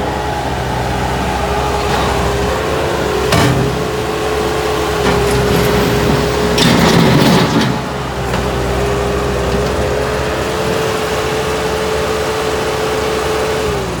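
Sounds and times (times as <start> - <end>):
skid-steer loader diesel engine running: 0.0 - 14.0
steady mechanical whine: 0.0 - 14.0.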